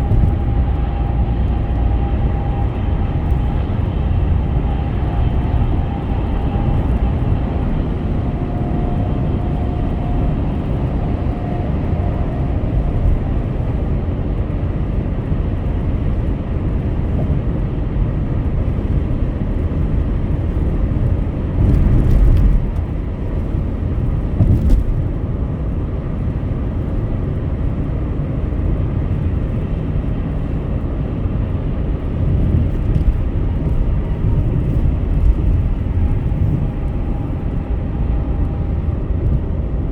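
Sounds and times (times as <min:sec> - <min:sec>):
car road noise on highway: 0:00.0 - 0:39.9.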